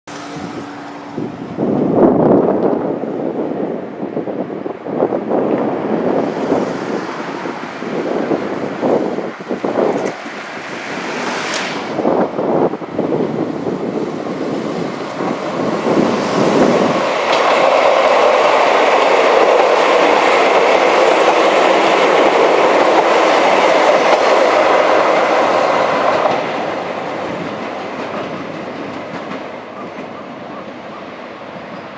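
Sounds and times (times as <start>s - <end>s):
electric train passing: 0.1s - 31.9s.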